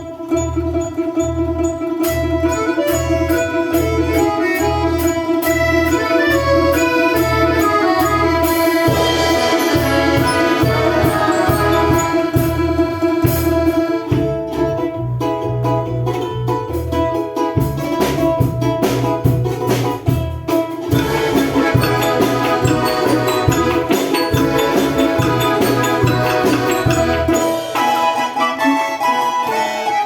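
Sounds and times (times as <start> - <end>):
pulsing bass line: 0.0 - 17.0, 17.6 - 27.7
plucked strings: 0.0 - 30.0.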